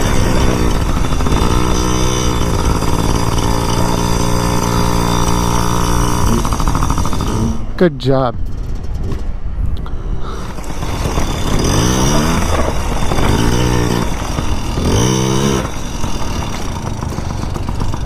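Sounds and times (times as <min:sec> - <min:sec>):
motorcycle engine revving: 0:00.0 - 0:07.8, 0:10.2 - 0:18.0
road noise: 0:00.0 - 0:18.0
wind noise: 0:00.0 - 0:18.0.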